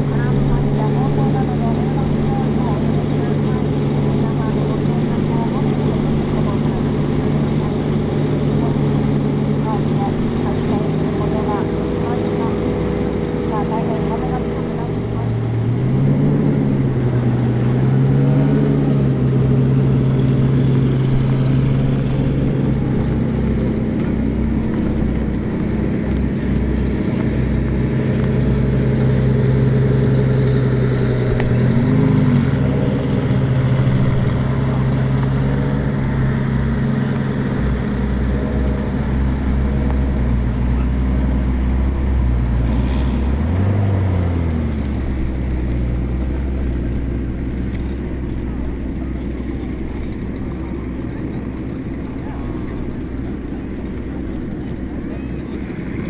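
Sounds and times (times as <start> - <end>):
motorcycle engines passing slowly: 0.0 - 56.0.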